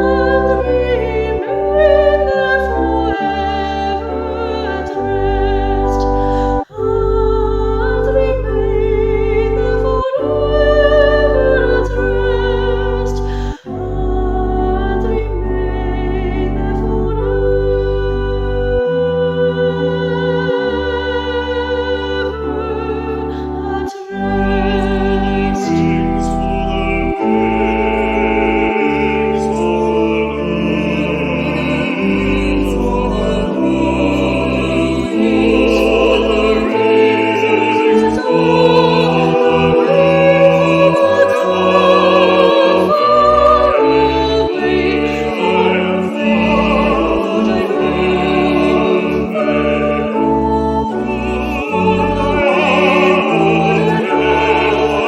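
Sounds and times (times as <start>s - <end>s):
solo singer with vibrato: 0.0s - 55.0s
sustained instrumental chords: 0.0s - 55.0s.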